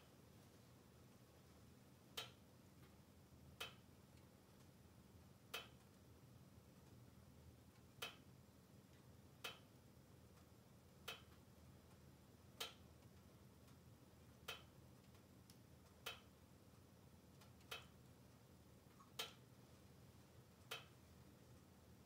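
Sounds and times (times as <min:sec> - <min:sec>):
wood fire crackling in stove: 0:00.0 - 0:22.0.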